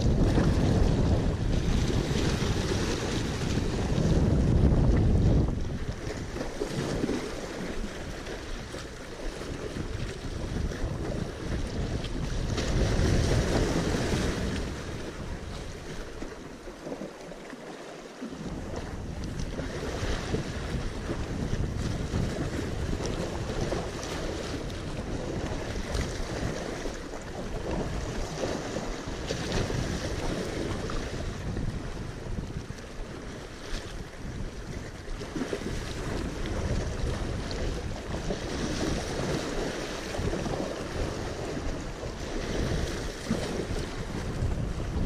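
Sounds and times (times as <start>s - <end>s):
wind buffeting microphone: 0.0s - 17.0s, 18.2s - 45.0s
waves splashing against rocks: 0.0s - 45.0s.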